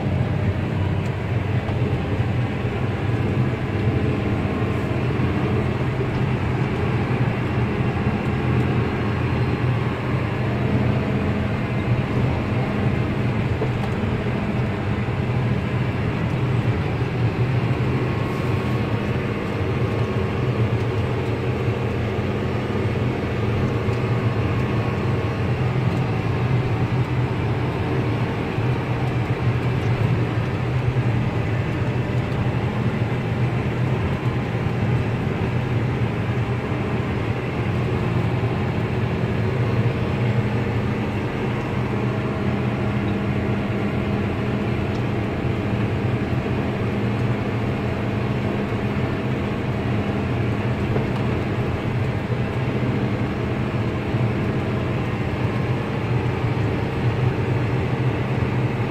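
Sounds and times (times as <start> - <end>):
tractor diesel engine drone: 0.0 - 58.9.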